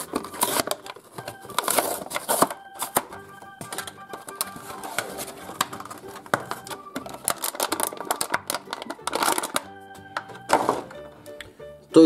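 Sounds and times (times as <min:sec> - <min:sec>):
plastic packaging crinkling: 0:00.0 - 0:11.0
quiet background music: 0:00.0 - 0:12.0.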